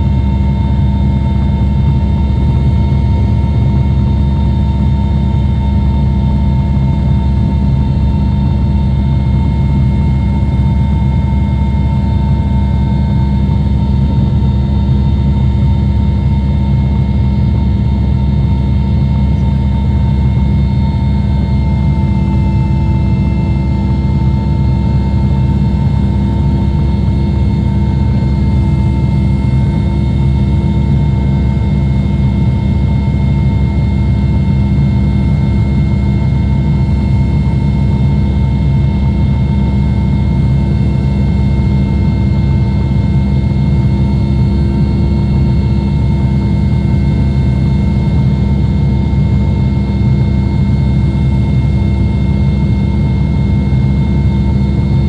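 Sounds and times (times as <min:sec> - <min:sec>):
helicopter engines and rotor drone: 0:00.0 - 0:55.0.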